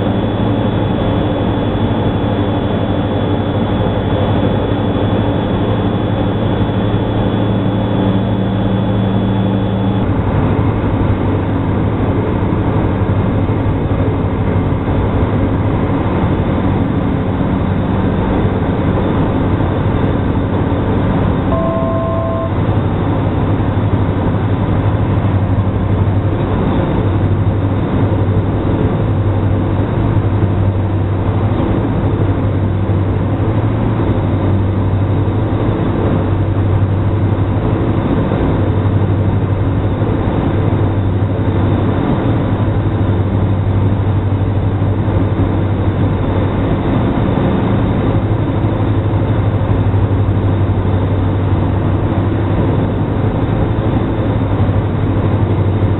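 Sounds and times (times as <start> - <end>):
aircraft engines droning: 0.0 - 55.9.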